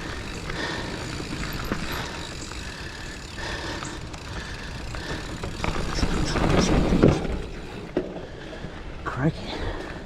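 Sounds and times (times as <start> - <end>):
bike tyres crunching on dirt: 0.0 - 10.0.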